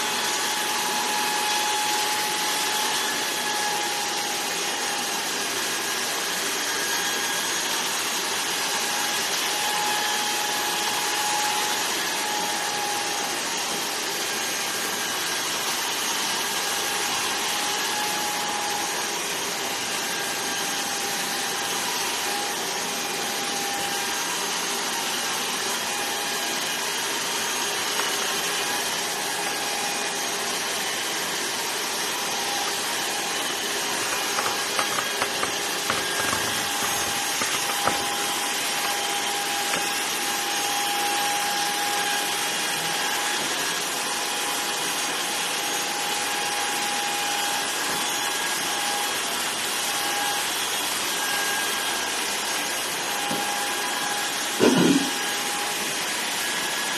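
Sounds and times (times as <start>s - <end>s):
electric hair clippers whining: 0.0s - 56.9s.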